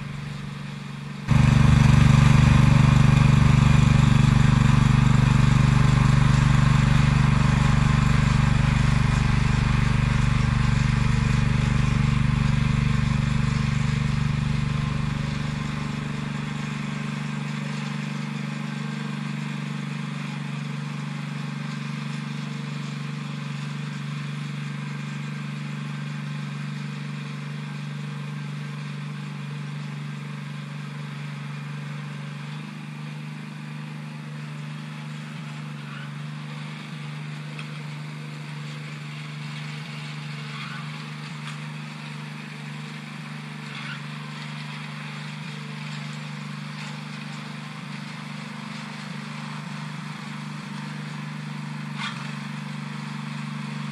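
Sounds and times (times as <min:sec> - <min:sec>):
tractor engine running under load: 0:00.0 - 0:53.9.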